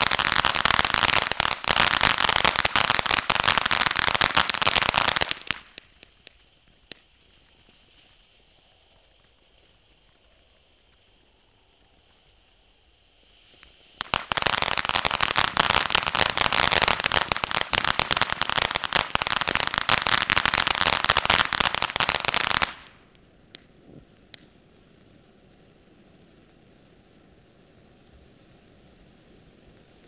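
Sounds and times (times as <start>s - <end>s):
firework pops: 0.0s - 12.6s, 13.4s - 25.1s
firework fountain hissing: 0.0s - 30.0s
rapid firework crackle: 0.0s - 30.0s.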